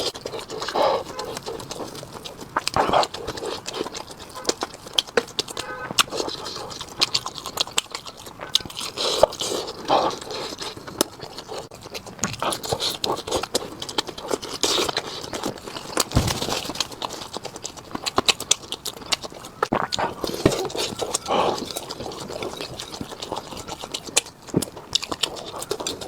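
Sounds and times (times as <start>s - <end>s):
chewing and crunching fried fish: 0.0s - 26.0s.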